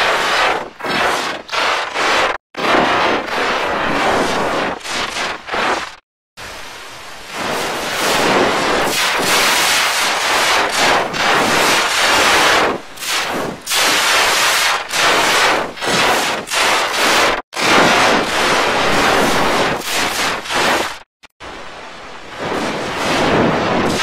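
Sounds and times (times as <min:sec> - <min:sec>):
harsh distorted noise: 0:00.0 - 0:06.0, 0:07.3 - 0:21.1.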